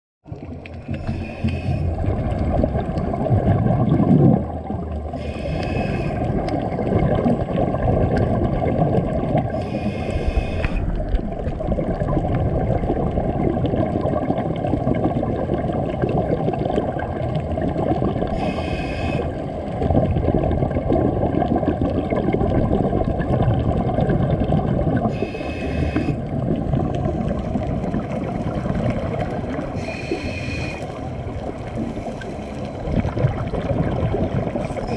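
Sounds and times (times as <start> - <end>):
underwater rush: 0.3 - 34.9
scuba regulator breath with bubbles: 0.6 - 34.9.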